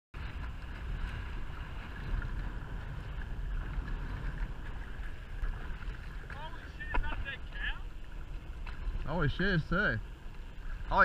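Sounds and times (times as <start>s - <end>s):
water lapping against hull: 0.1s - 11.0s
wind buffeting microphone: 0.2s - 11.0s.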